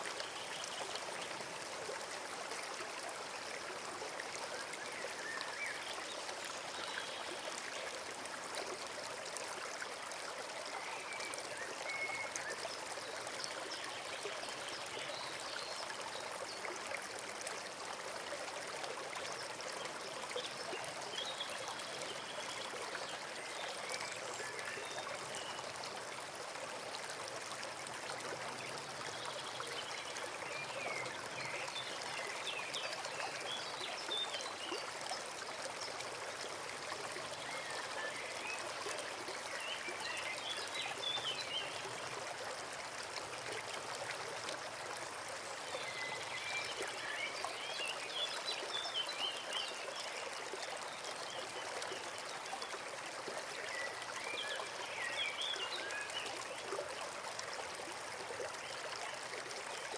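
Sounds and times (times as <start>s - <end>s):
forest stream running: 0.0s - 59.9s.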